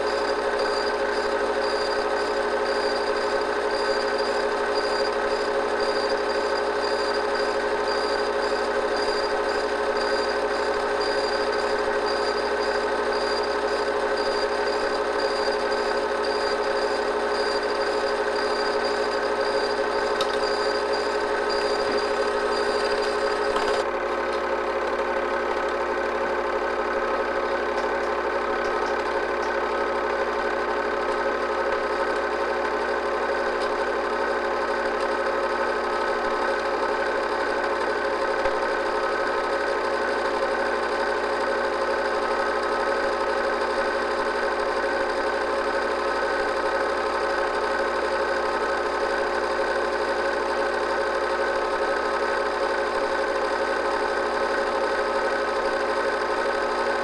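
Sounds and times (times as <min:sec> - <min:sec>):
film projector running: 0:00.0 - 0:57.0.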